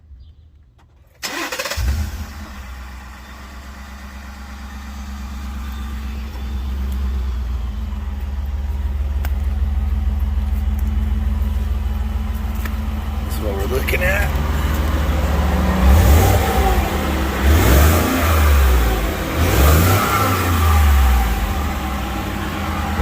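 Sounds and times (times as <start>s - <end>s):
engine cranking and idling: 0.5s - 23.0s.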